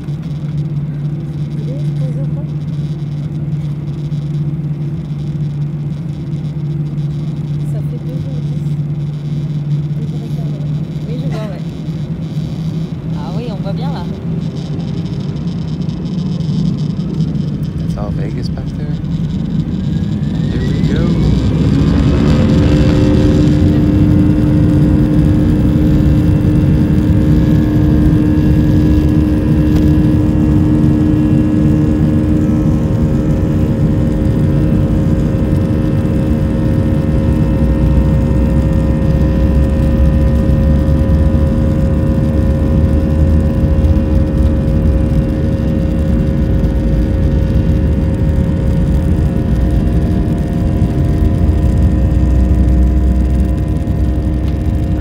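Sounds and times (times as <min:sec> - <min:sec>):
deep rumble of runway roll: 0:00.0 - 0:55.0
jet engines spooling up: 0:00.0 - 0:55.0.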